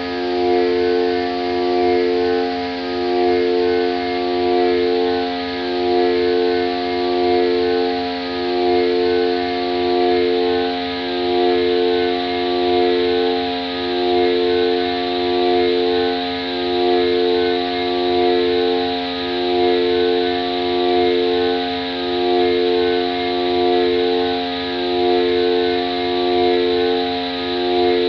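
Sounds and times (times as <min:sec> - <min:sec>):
synthesizer drone chord: 0:00.0 - 0:28.0.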